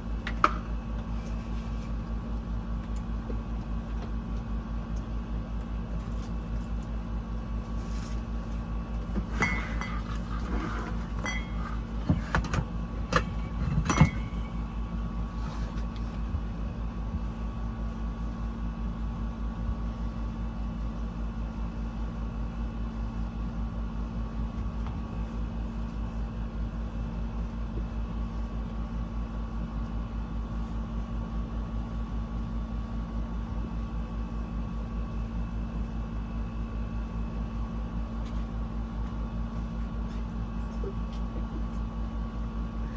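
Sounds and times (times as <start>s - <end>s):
motor hum with throb: 0.0s - 42.9s.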